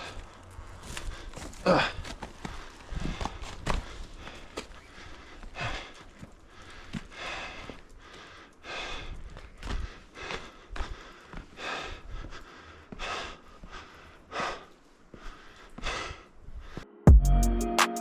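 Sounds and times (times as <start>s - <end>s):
person breathing hard: 0.9s - 16.9s.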